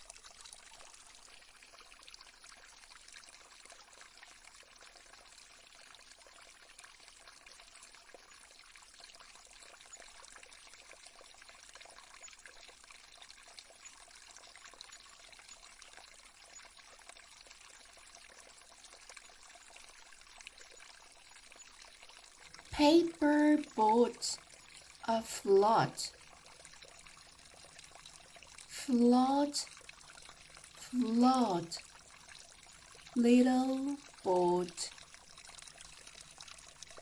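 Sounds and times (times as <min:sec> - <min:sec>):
faint trickle of flowing water: 0:00.0 - 0:37.0.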